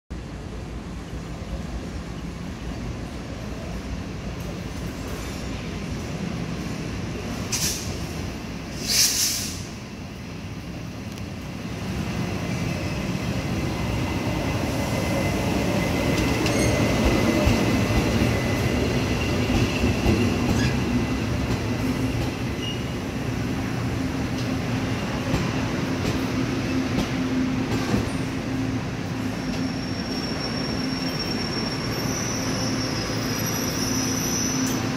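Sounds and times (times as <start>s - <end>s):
train wheels rumbling: 0.3s - 34.9s.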